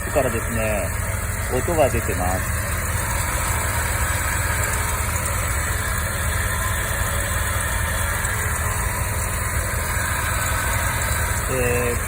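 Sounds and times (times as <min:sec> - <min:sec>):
power steering pump noise: 0:00.0 - 0:12.0
rotary engine idling: 0:00.0 - 0:12.0.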